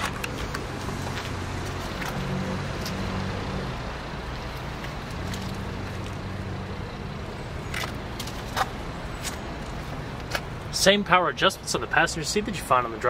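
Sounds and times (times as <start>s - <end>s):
road traffic noise: 0.0s - 13.0s
vehicle engine humming: 0.0s - 13.0s.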